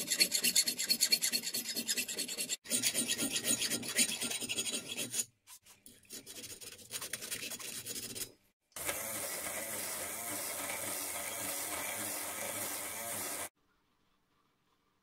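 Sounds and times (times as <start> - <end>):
metal file rasping through metal: 0.0 - 5.3, 6.1 - 13.5.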